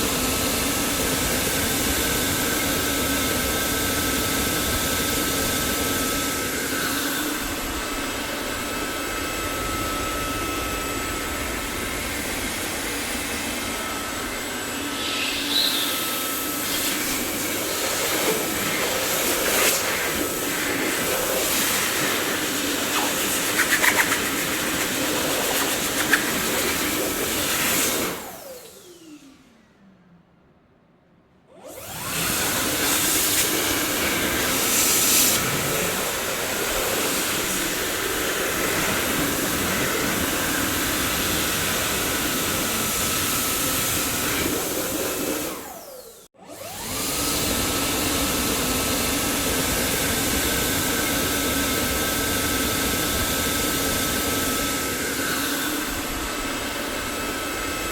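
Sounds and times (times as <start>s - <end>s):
vacuum cleaner motor whooshing: 0.0s - 29.8s, 31.5s - 57.9s
vacuum motor winding down whine: 0.1s - 30.0s, 31.5s - 57.9s.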